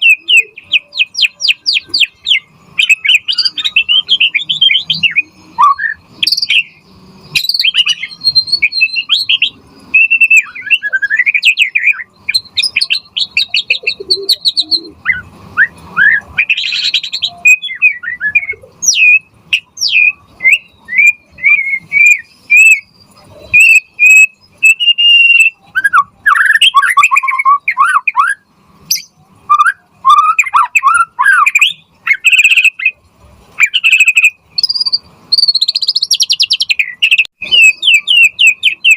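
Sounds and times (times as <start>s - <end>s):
bird singing whistles and trills: 0.0s - 33.0s, 33.6s - 38.9s.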